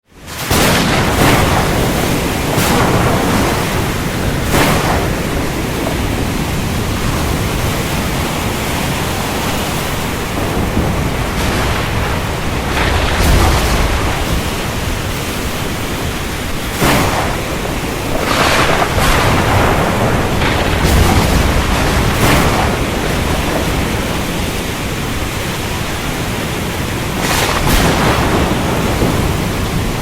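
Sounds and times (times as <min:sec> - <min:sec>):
heavy rain falling: 0:00.0 - 0:30.0
deep roll of thunder: 0:00.3 - 0:25.9, 0:27.1 - 0:30.0
thunder cracks: 0:00.3 - 0:30.0.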